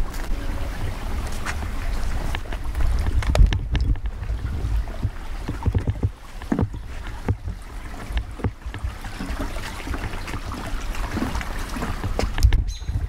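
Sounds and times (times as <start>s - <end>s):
footsteps on wooden boardwalk: 0.0s - 13.0s
stream rushing: 0.0s - 13.0s
wind rumble on microphone: 0.0s - 13.0s.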